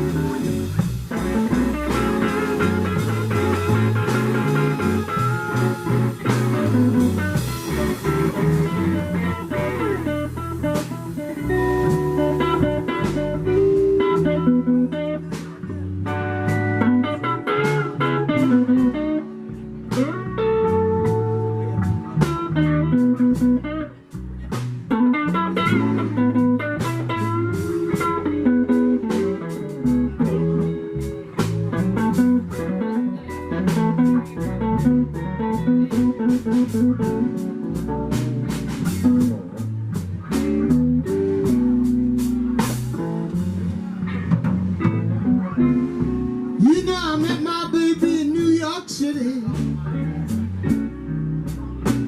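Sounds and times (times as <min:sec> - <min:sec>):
blues band playing: 0:00.0 - 0:52.0
electric guitar solo: 0:00.0 - 0:52.0.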